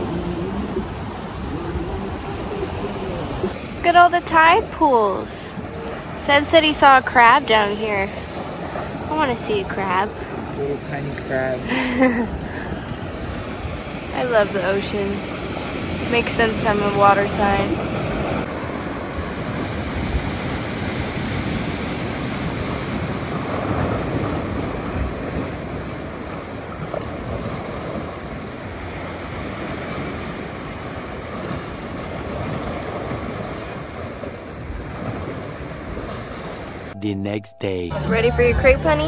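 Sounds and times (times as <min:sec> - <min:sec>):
ocean surf on rocks: 0:00.0 - 0:37.0.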